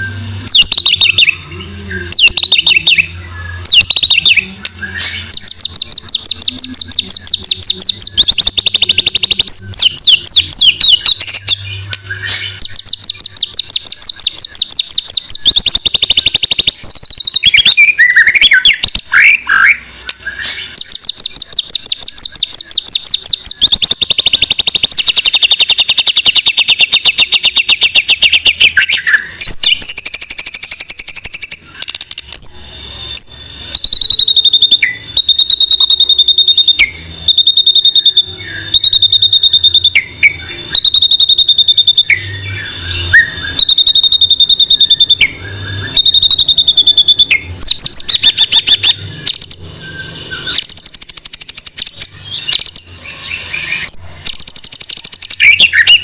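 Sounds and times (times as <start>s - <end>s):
bird singing loud trills: 0.0s - 56.0s.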